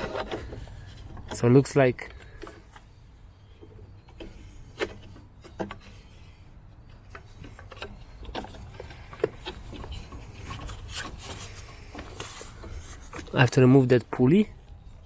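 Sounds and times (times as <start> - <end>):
tools clicking on engine: 0.0 - 13.6.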